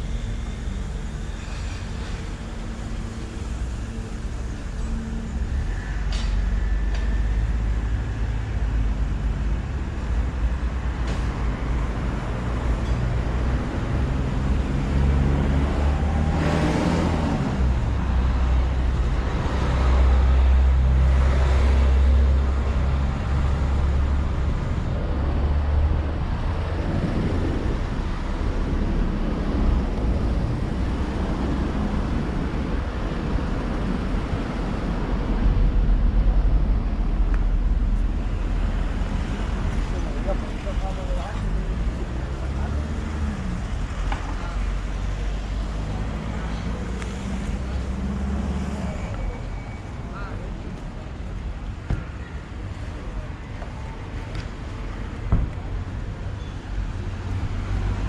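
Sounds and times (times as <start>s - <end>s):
vehicles driving by: 0.0s - 58.0s.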